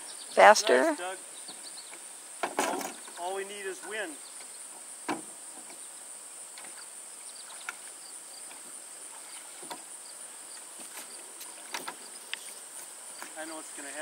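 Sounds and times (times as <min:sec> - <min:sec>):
high insect chorus: 0:00.0 - 0:14.0.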